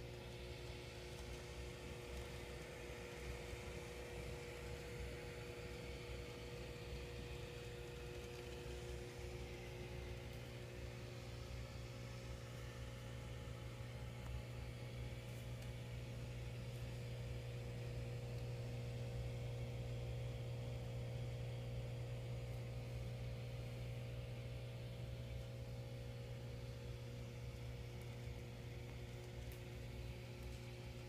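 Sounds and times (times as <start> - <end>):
aquarium pumps humming: 0.0 - 31.0.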